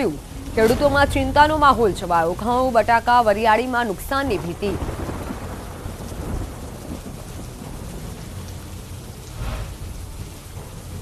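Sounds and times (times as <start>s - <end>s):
steady rain falling: 0.0s - 11.0s
thunder rumbling: 0.0s - 11.0s.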